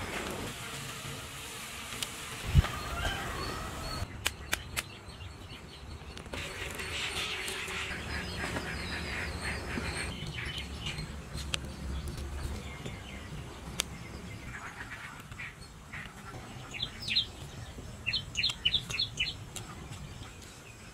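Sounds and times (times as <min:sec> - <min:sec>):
birds chirping: 0:02.5 - 0:20.9.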